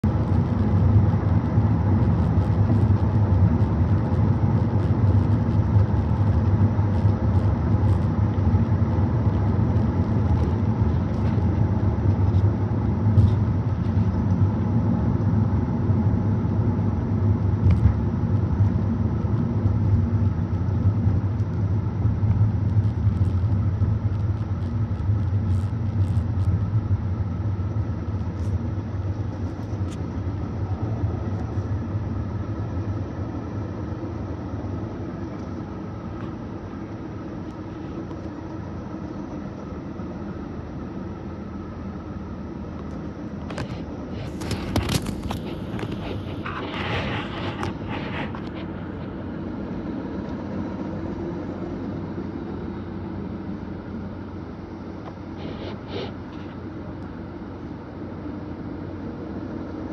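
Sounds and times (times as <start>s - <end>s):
car road noise: 0.0s - 59.9s.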